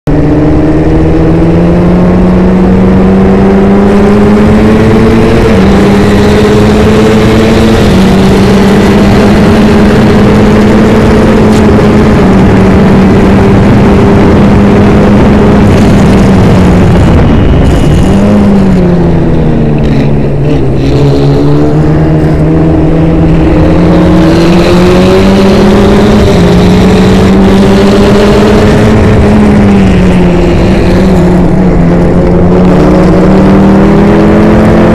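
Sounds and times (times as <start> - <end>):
race car engine accelerating: 0.0 - 34.9.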